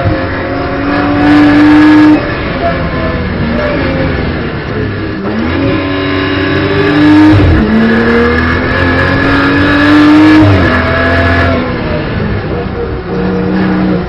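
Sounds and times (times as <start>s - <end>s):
car engine accelerating with upshifts: 0.0s - 14.0s.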